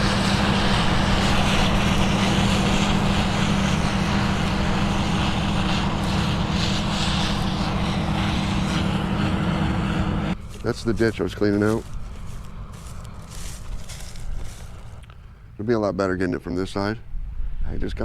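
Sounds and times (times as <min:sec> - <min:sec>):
machinery engine drone: 0:00.0 - 0:15.6.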